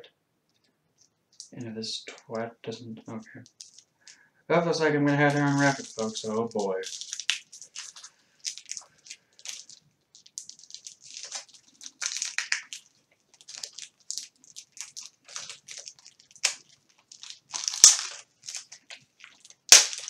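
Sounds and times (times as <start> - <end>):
wrapping being crinkled: 0.6 - 2.4, 3.2 - 20.0.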